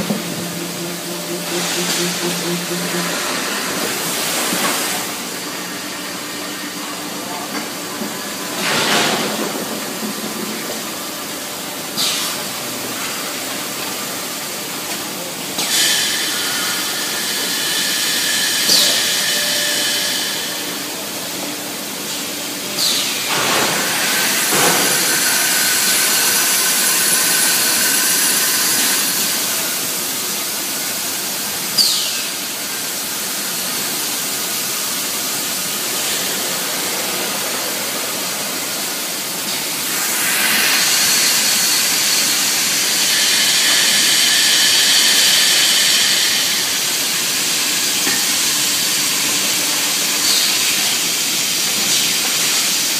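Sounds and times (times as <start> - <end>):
steam and air hissing: 0.0 - 52.9.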